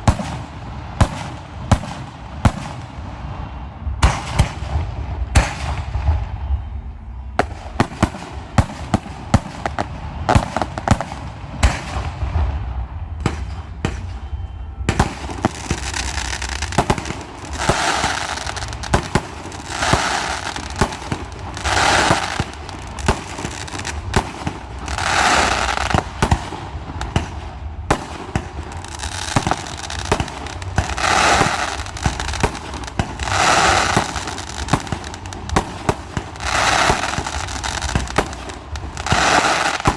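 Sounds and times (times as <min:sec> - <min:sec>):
fireworks crackling: 0:00.0 - 0:39.9
fireworks sharp bangs: 0:00.0 - 0:39.9.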